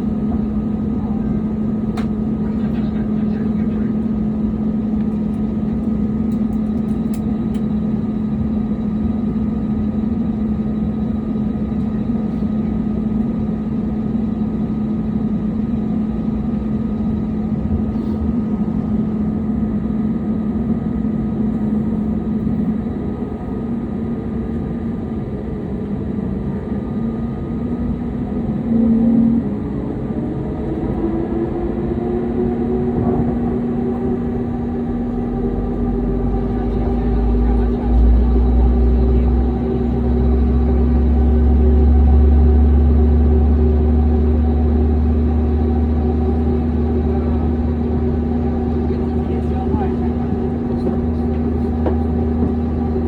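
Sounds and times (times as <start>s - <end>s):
airliner cabin drone: 0.0s - 53.0s.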